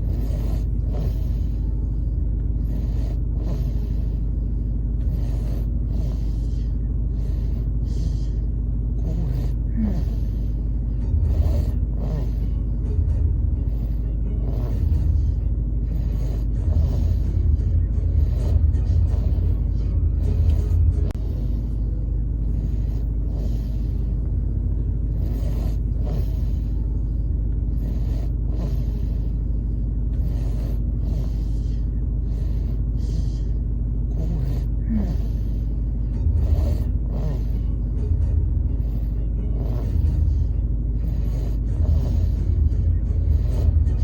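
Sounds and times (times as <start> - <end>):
baby snoring: 0.0 - 44.0
car low rumble: 0.0 - 44.0.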